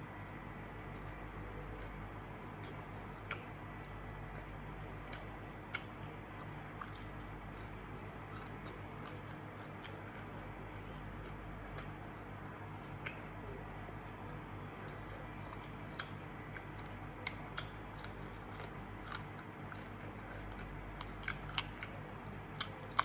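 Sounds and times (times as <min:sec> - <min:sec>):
steady low hum: 0:00.0 - 0:23.0
person chewing food: 0:00.6 - 0:23.0.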